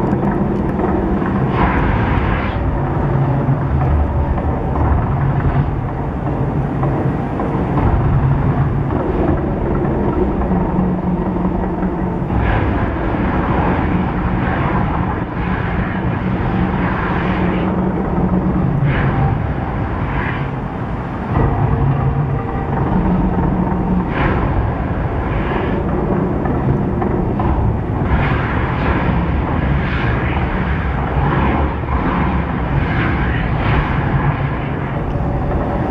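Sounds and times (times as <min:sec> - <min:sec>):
deep rumble: 0:00.0 - 0:35.9.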